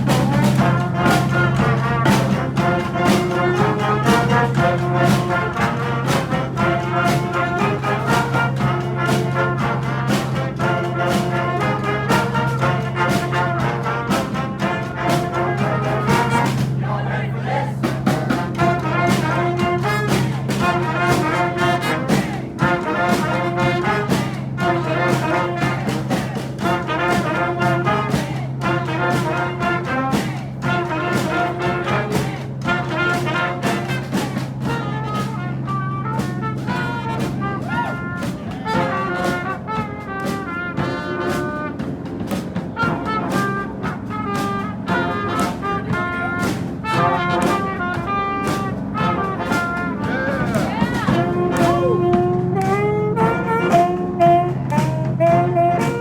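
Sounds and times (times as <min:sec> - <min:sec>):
brass band with drums: 0:00.0 - 0:56.0
horn soloing: 0:00.0 - 0:56.0.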